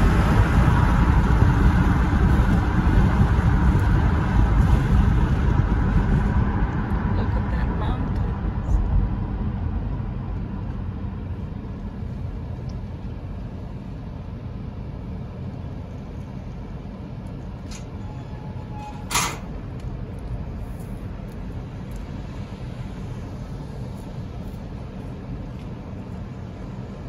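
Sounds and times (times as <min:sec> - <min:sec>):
car rumble from inside cabin: 0:00.0 - 0:27.0.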